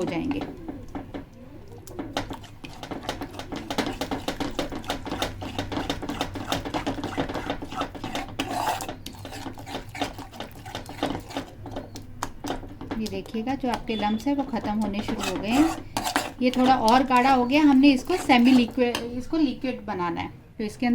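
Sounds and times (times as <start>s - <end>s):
utensil scraping cooking pan: 1.9s - 19.8s.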